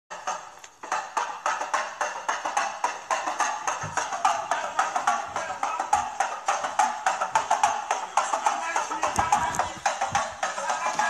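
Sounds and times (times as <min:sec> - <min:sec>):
rhythmic percussion music: 0:00.1 - 0:11.0.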